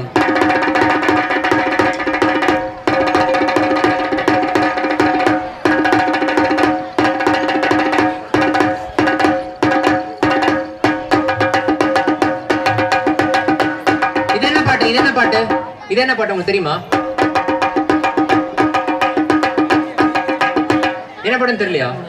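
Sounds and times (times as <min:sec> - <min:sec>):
frame drum beaten with sticks: 0:00.0 - 0:16.2, 0:16.8 - 0:21.2.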